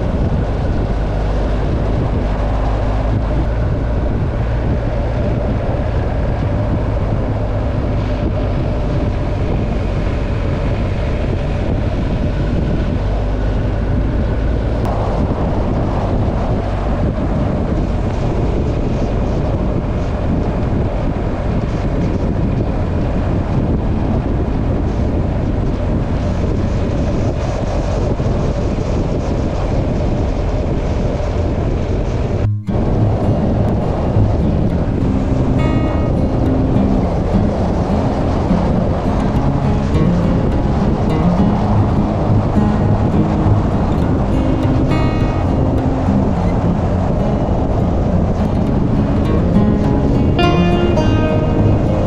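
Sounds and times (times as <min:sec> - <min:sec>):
motorcycle engine cruising: 0:00.0 - 0:52.0
wind buffeting microphone: 0:00.0 - 0:52.0.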